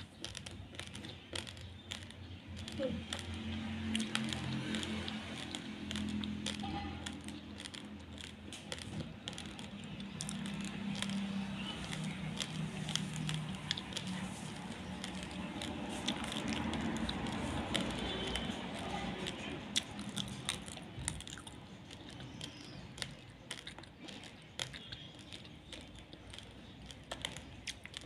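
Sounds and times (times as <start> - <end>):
raw rice grains crunching: 0.0 - 28.0.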